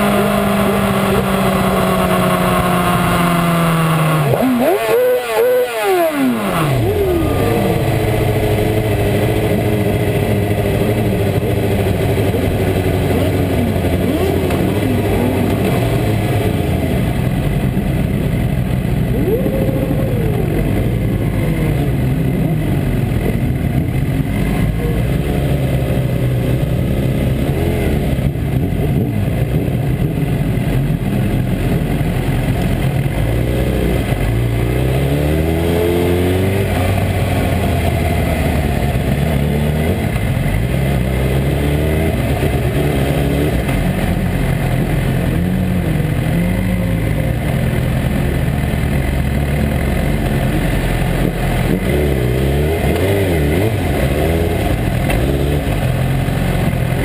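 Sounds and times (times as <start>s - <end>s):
motorcycle engine at low revs: 0.0s - 57.0s.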